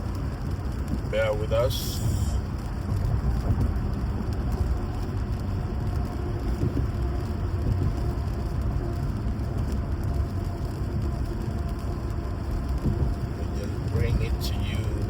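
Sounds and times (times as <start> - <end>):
car engine and road rumble: 0.0 - 15.0
rain and wet tyres hissing: 0.0 - 15.0.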